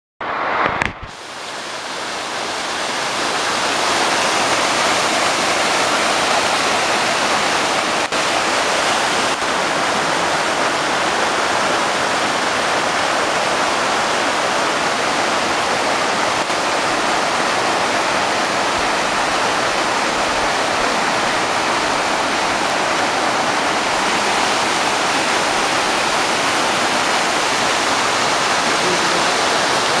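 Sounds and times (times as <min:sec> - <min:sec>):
waterfall rushing: 0:00.3 - 0:30.0.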